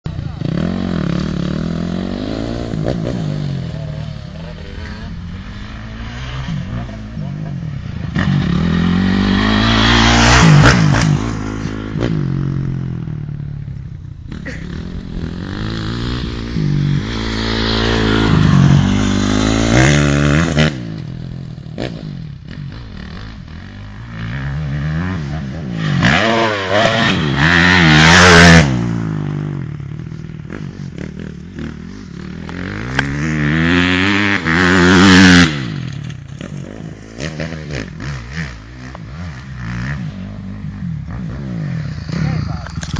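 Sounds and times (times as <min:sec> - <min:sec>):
motocross bike engine revving: 0:00.1 - 0:42.9.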